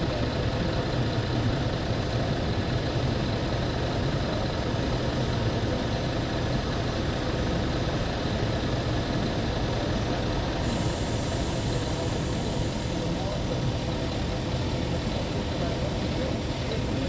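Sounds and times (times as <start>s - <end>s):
diesel truck engine idling: 0.1s - 17.0s.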